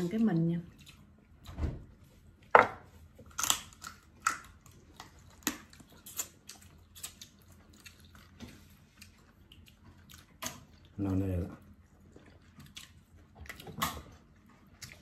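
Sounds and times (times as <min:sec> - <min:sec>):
shellfish shells cracking and chewing: 0:02.2 - 0:15.0.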